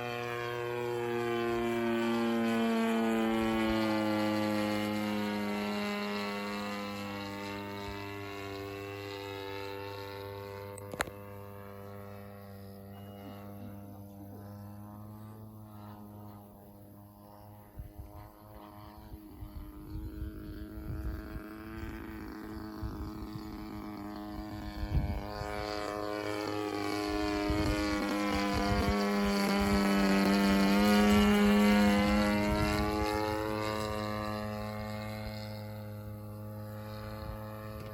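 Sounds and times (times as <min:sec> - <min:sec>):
model plane engine droning: 0:00.0 - 0:37.9.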